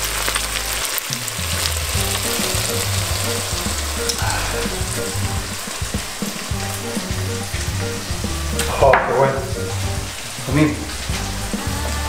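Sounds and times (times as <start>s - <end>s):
background music: 0.0s - 12.0s
sofrito sizzling in frying pan: 0.0s - 12.0s.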